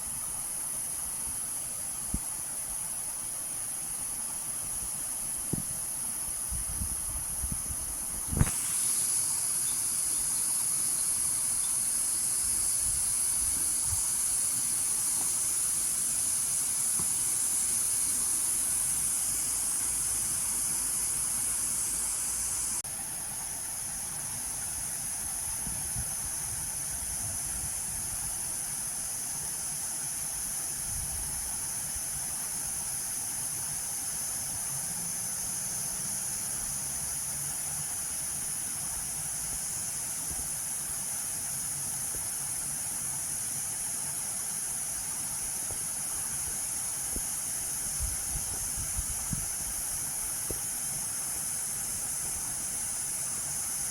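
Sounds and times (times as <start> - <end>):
cicadas droning: 0.0 - 53.9.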